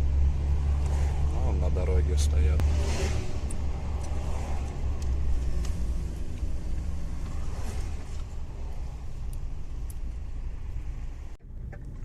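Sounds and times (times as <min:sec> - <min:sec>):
truck diesel engine rumble: 0:00.0 - 0:12.0.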